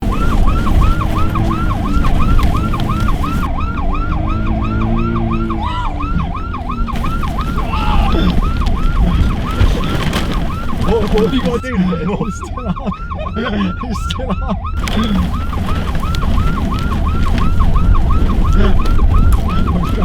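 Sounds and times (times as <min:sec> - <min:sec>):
engine rumble: 0:00.0 - 0:20.0
yelp siren: 0:00.0 - 0:20.0.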